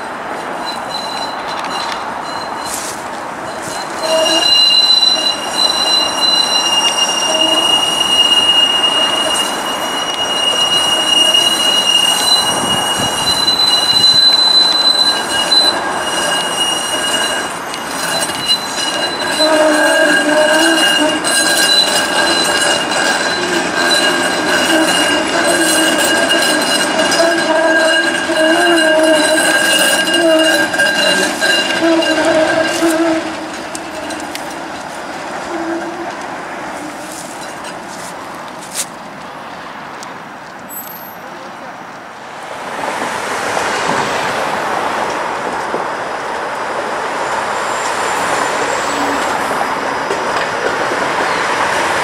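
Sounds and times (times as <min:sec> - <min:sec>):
streetcar wheels squealing: 0:00.0 - 0:39.3, 0:40.6 - 0:41.5, 0:42.9 - 0:52.0.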